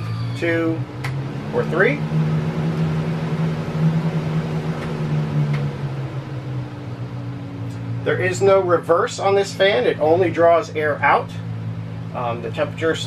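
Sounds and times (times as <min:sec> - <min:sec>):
roof exhaust fan running: 0:00.0 - 0:13.0.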